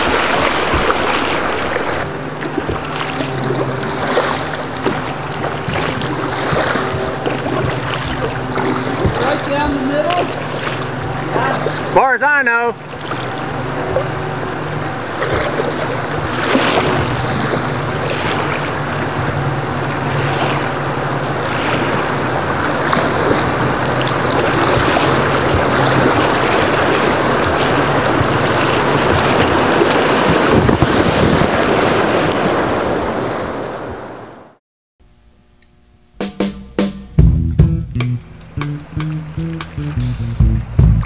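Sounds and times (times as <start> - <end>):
wind buffeting microphone: 0.0 - 12.0, 12.8 - 34.3
river water rushing and splashing: 0.0 - 34.5.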